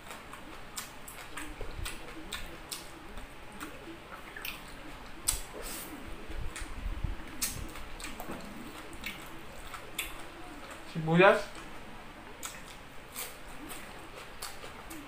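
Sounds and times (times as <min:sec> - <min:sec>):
person chewing with mouth smacks: 0:00.0 - 0:10.9, 0:12.3 - 0:15.0.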